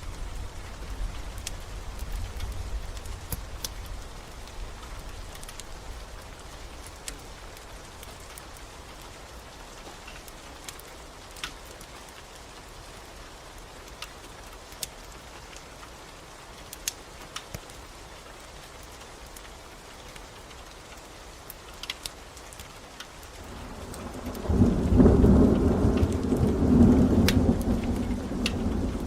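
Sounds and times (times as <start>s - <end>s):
rain hiss: 0.0s - 29.0s
wood fire crackling: 0.0s - 29.0s.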